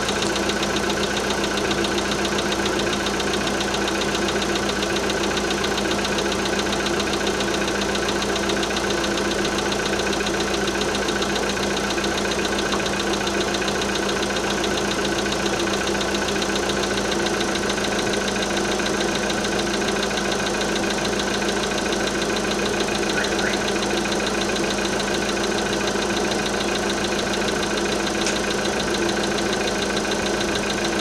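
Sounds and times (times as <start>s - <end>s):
car engine running: 0.0s - 31.0s
engine knock ticking: 0.0s - 31.0s.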